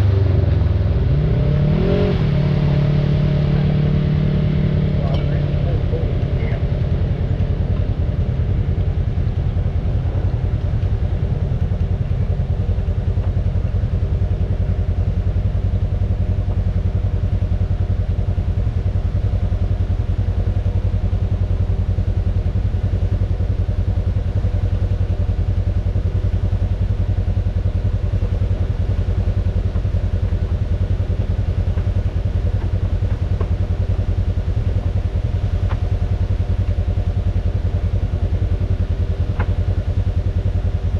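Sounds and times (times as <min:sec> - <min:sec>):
off-road vehicle engine running: 0:00.0 - 0:40.9.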